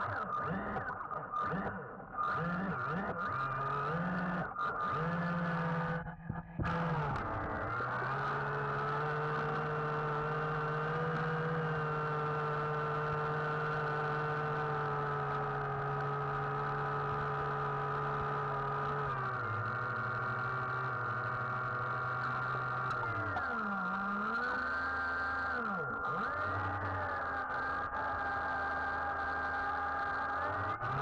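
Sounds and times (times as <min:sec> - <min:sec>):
electric motor whining underwater: 0:00.0 - 0:31.0.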